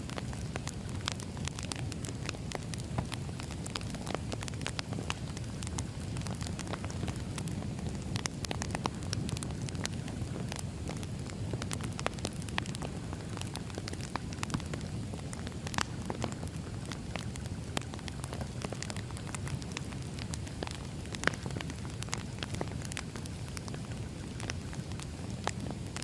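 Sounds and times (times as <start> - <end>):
crackles and pops of burning logs: 0.0 - 26.0
wood fire burning: 0.0 - 26.0.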